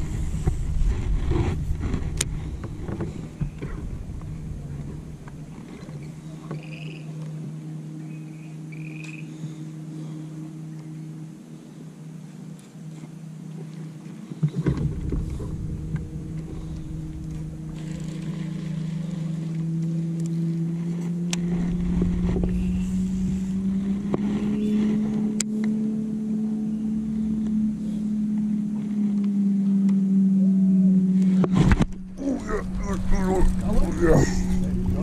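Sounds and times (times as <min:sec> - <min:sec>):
boat motor humming: 0:00.0 - 0:35.0
low rumble: 0:00.0 - 0:35.0.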